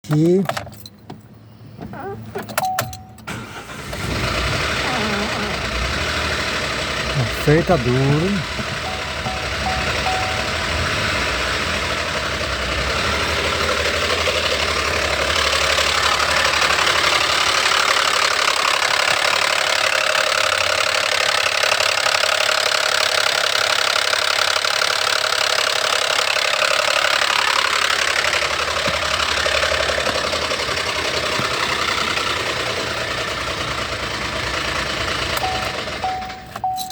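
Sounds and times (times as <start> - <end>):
engine knocking: 4.0 - 36.8.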